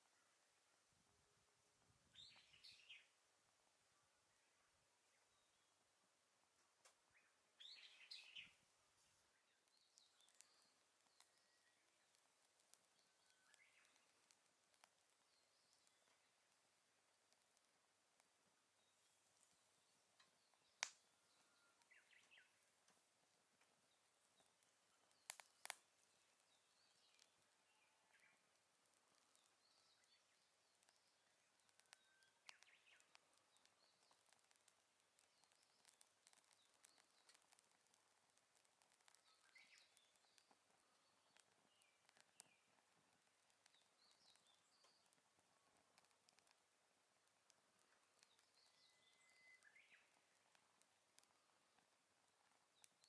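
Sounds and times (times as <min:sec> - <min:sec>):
fire popping: 0:00.0 - 0:53.0
firewood burning: 0:00.0 - 0:53.0
faint bird chirps: 0:02.0 - 0:53.0.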